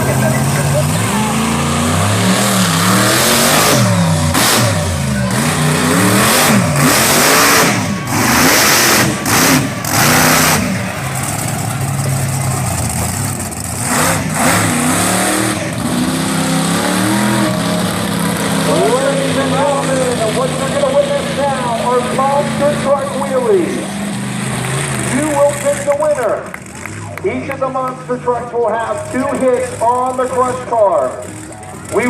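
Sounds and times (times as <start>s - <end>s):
loud engine blasts: 0.0s - 32.0s
truck engine revving hard: 0.0s - 32.0s.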